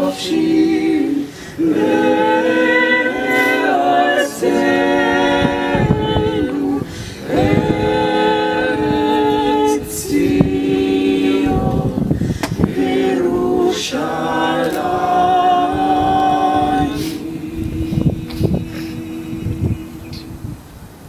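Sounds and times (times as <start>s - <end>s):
vocal quartet singing a cappella: 0.0s - 20.7s.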